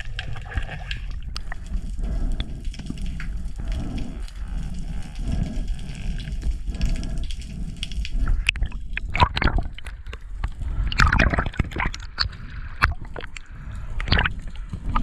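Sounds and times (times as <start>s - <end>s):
low underwater rumble: 0.0s - 15.0s
sharp clicks and crackles: 0.0s - 15.0s
water gurgling and sloshing: 0.0s - 15.0s.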